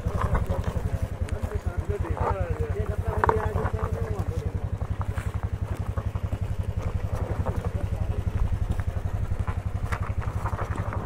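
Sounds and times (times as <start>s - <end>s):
knocks and clatters: 0.0s - 11.0s
motorcycle engine running: 0.0s - 11.0s.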